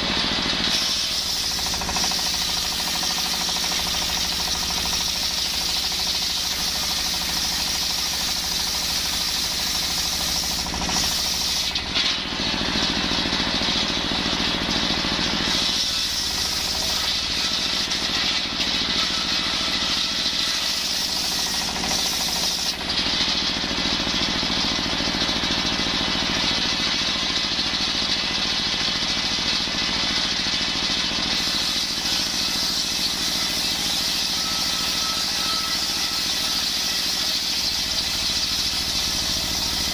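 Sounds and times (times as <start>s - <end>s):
diesel engine running: 0.0s - 20.4s, 21.2s - 36.2s, 37.0s - 39.9s
circular saw ripping wood: 0.0s - 23.4s, 30.9s - 39.9s.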